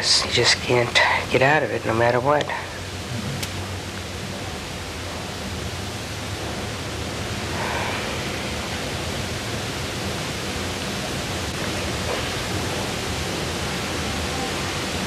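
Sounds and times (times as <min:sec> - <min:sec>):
videotape hiss: 0:00.0 - 0:15.0.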